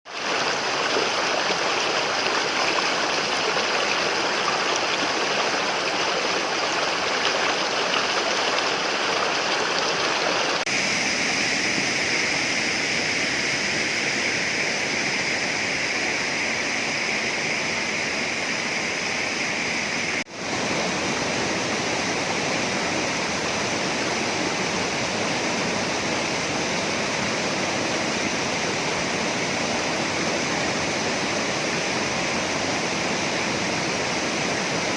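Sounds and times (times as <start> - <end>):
waterfall and stream rushing: 0.1 - 34.9.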